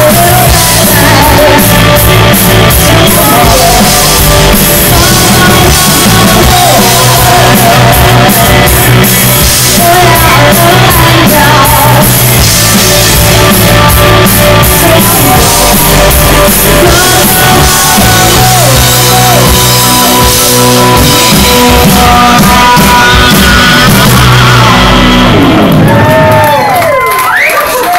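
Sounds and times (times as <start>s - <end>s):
woman singing: 0.0s - 2.1s, 2.7s - 12.2s, 13.1s - 20.3s, 21.2s - 24.8s
keyboard: 0.0s - 27.6s
bass guitar: 0.0s - 27.9s
drums: 0.0s - 27.9s
electric guitar: 0.0s - 27.9s.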